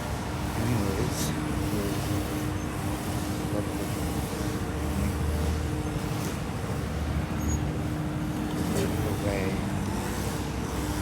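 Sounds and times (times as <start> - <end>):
rumble of vehicles: 0.0 - 11.0.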